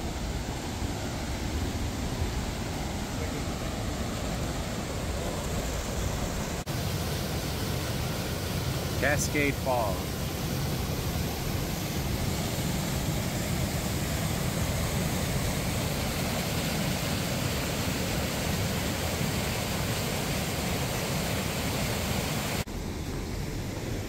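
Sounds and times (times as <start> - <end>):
waterfall rushing: 0.0 - 22.7.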